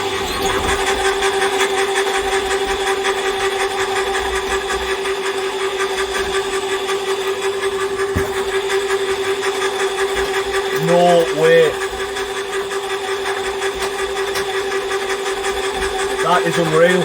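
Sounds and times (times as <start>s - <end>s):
cable-stripping machine motor hum: 0.0s - 17.0s.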